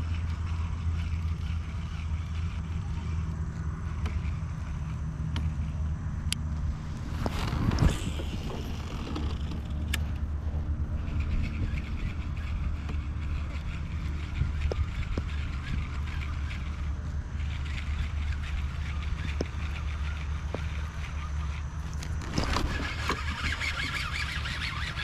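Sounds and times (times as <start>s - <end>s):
steady low rumble: 0.0s - 24.4s
fishing reel gears whirring: 0.0s - 25.0s.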